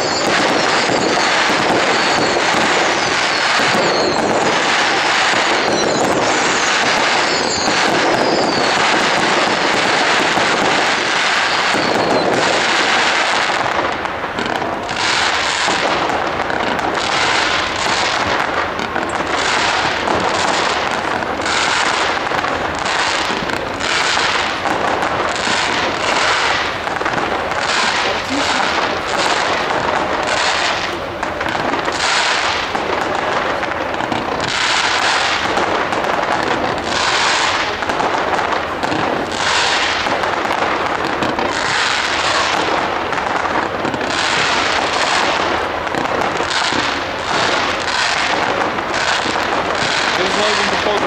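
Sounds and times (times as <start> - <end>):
fireworks crackling: 0.0 - 51.0
fireworks falling whistles: 0.0 - 51.0
fireworks shots: 0.0 - 51.0.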